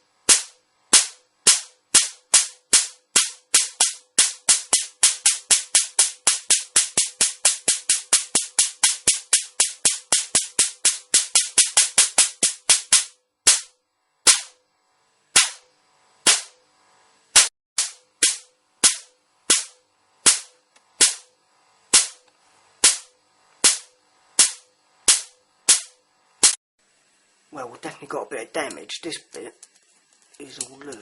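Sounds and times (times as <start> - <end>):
electric spark cracks: 0.2 - 14.6, 15.3 - 16.6, 17.3 - 26.6.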